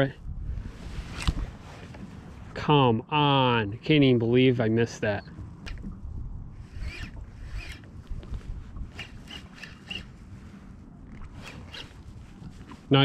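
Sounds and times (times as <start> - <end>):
wind buffeting microphone: 0.0 - 2.7, 5.1 - 13.0.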